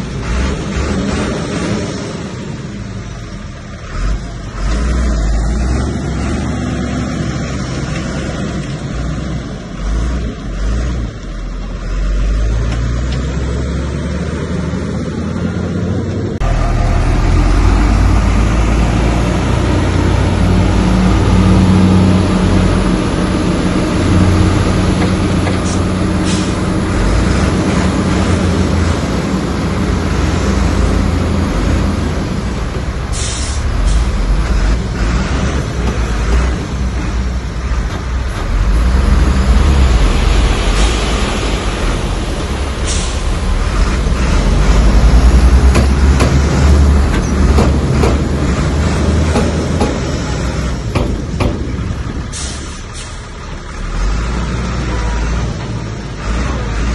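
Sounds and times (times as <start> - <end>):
diesel engine rumbling: 0.0 - 56.9.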